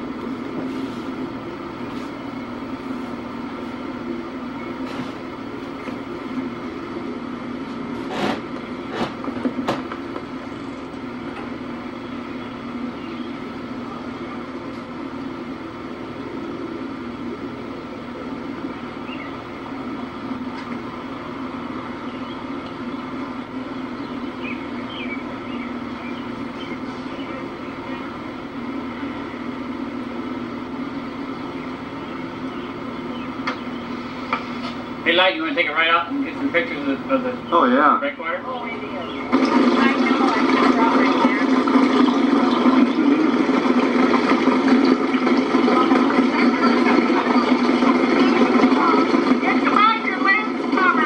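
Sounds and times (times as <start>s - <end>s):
steady mechanical drone: 0.0s - 51.0s.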